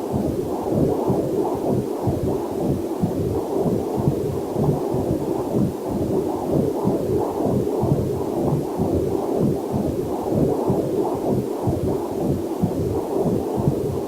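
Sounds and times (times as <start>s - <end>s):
heartbeat whooshing pulses: 0.0s - 14.0s.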